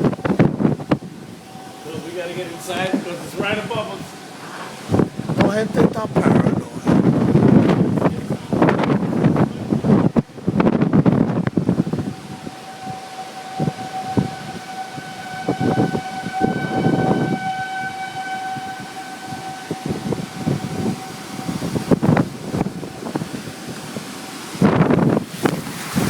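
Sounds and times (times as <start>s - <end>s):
gusting wind: 0.0s - 26.0s
tornado warning siren: 0.0s - 26.0s.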